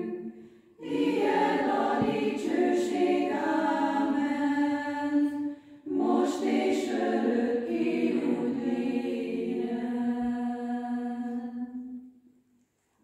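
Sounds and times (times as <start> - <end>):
women's choir singing: 0.0 - 12.0.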